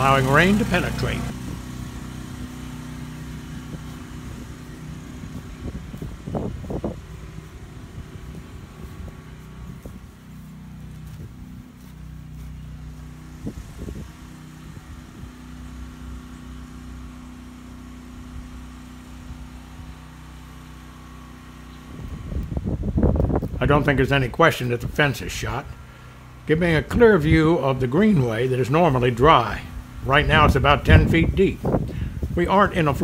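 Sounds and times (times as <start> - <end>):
generator engine humming: 0.0 - 33.0.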